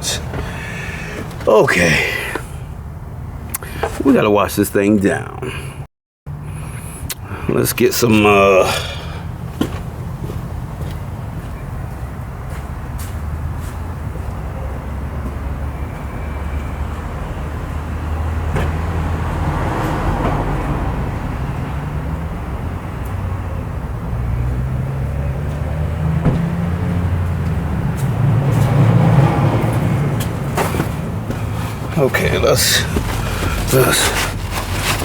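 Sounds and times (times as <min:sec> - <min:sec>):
vehicle engine rumble: 0:00.0 - 0:04.3, 0:05.2 - 0:35.0.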